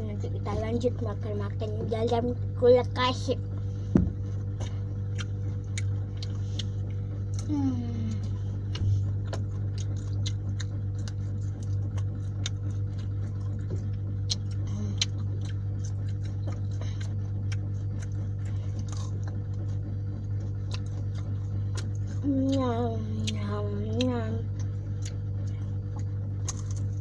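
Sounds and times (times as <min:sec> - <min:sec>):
low hum: 0:00.0 - 0:27.0
chewing and biting: 0:04.3 - 0:07.5, 0:08.1 - 0:27.0.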